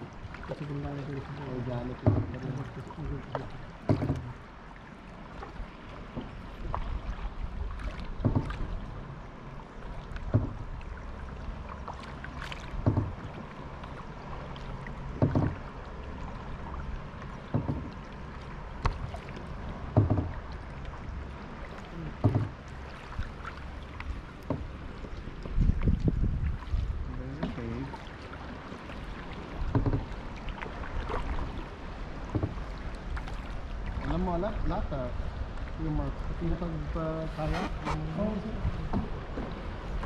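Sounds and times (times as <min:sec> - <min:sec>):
kayak paddle strokes in water: 0:00.0 - 0:40.0.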